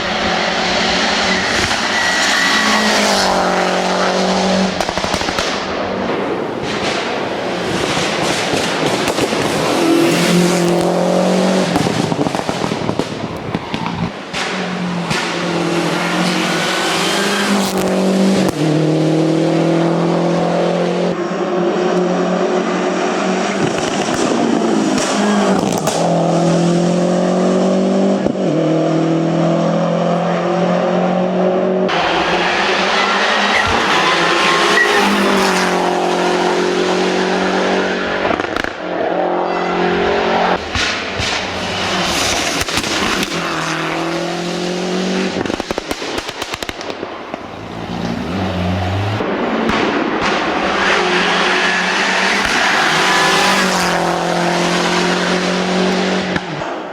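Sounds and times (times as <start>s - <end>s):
car engine at full throttle: 0.0s - 56.9s.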